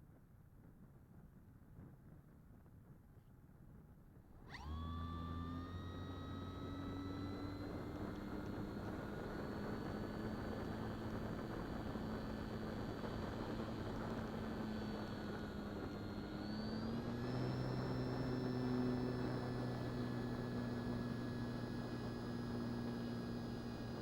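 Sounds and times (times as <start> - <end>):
electric motor and propeller whine: 4.4 - 24.0.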